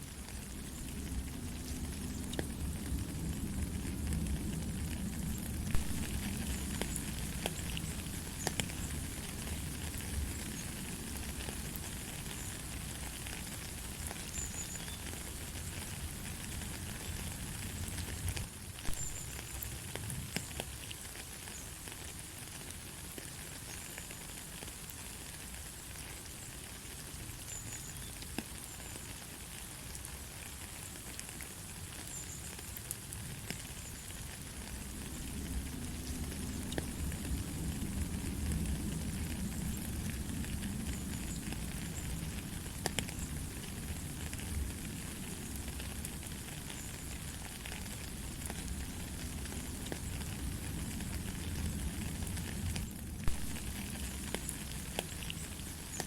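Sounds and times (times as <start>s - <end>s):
light rain with drop clicks: 0.0s - 56.0s.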